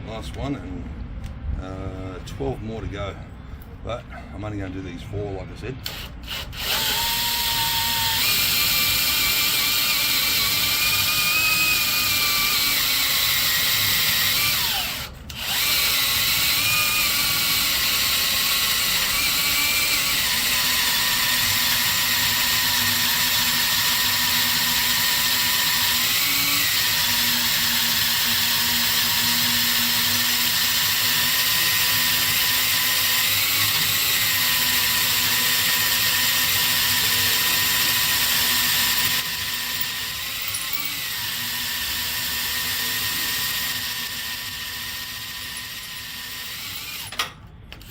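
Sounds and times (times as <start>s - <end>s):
power drill boring into steel: 5.8s - 47.3s.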